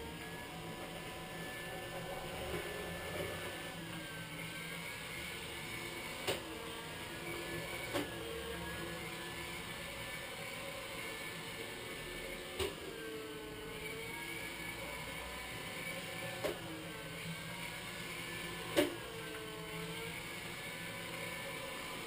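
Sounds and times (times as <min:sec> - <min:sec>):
robotic scrubber motor whirring: 0:00.0 - 0:22.0.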